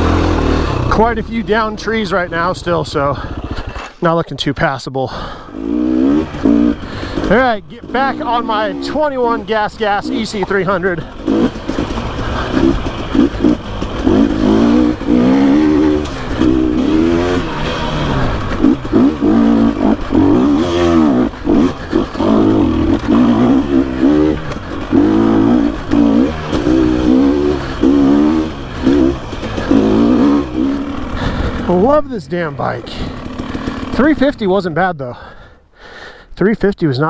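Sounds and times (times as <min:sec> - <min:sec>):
two-stroke dirt bike engine revving: 0:00.0 - 0:35.4.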